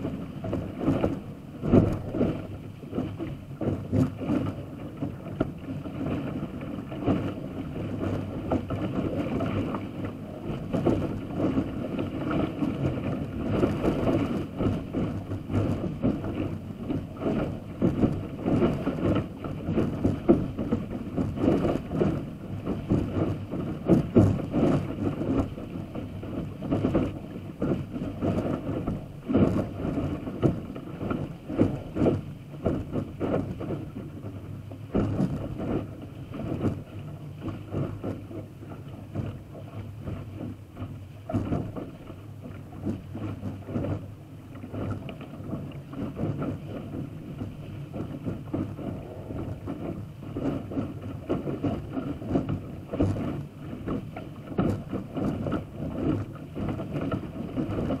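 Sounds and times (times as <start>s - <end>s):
water rushing along hull: 0.0s - 58.0s
waves slapping bow: 0.0s - 58.0s
wind noise on microphone: 0.0s - 58.0s.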